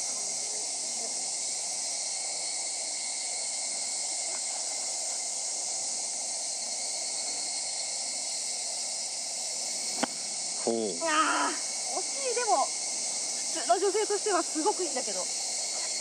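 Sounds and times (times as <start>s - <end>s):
high-pitched outdoor hiss: 0.0s - 16.0s.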